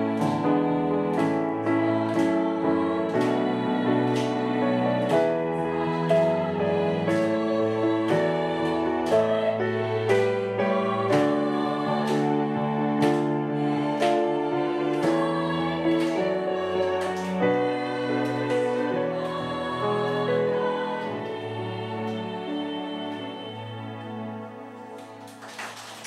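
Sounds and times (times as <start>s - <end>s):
women's choir singing a hymn: 0.0s - 25.2s
piano chords: 0.0s - 26.0s.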